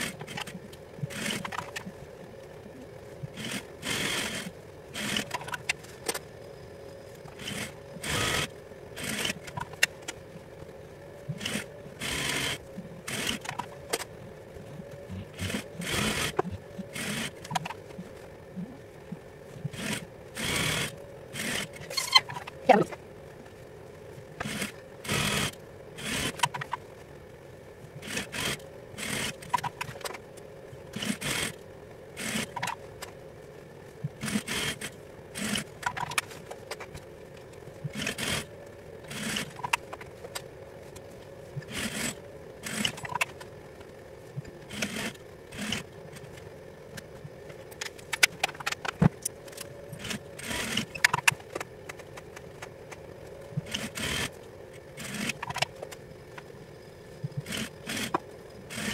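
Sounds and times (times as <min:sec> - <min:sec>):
steady hum: 0:00.0 - 0:58.9.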